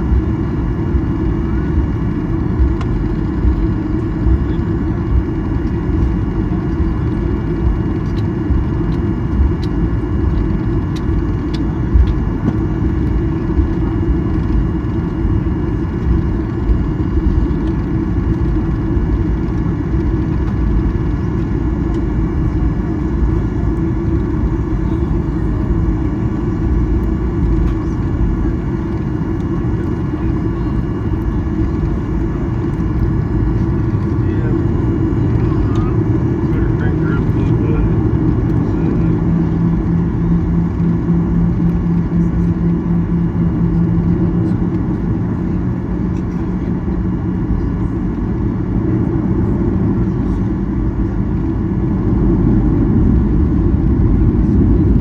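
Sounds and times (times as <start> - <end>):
faint engine whine: 0.0 - 55.0
jet engine low rumble: 0.0 - 55.0.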